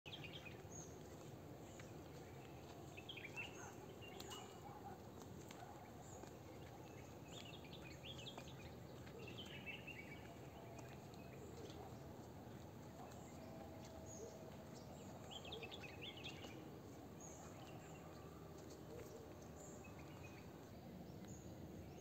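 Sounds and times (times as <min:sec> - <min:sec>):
low outdoor hum: 0:00.1 - 0:22.0
small birds chirping: 0:00.1 - 0:22.0.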